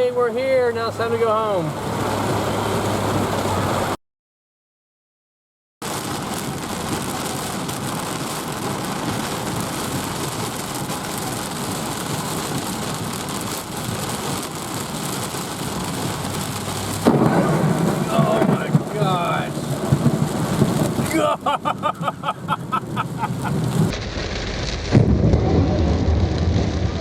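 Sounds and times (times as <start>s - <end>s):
heavy rain pouring: 0.0s - 4.0s, 5.8s - 27.0s.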